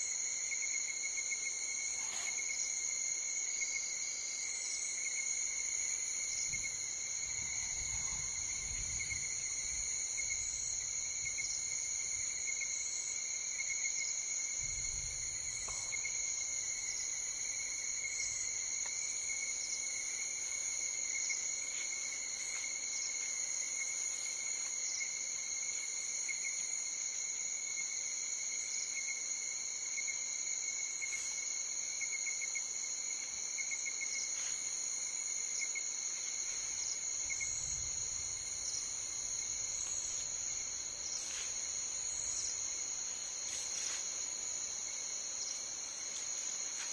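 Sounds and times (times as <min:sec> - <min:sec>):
night insects trilling: 0:00.0 - 0:46.9.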